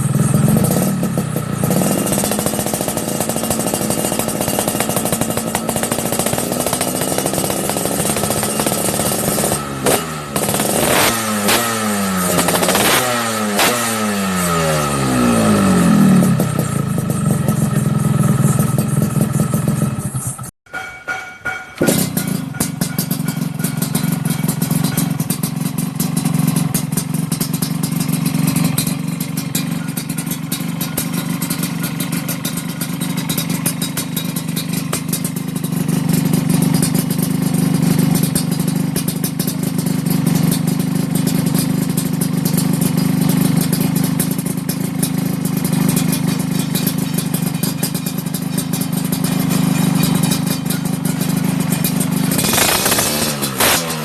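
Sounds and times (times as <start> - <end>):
two-stroke motorcycle running: 0.0 - 20.6, 21.8 - 54.0.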